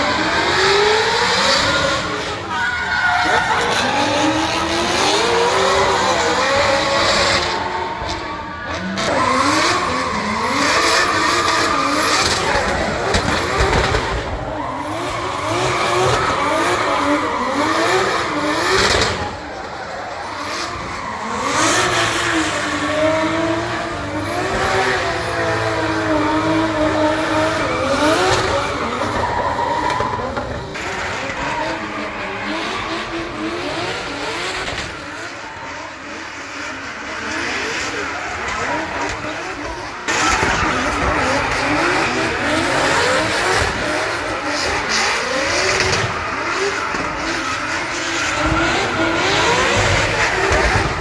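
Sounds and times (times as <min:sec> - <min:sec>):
car engines revving: 0:00.0 - 0:51.0.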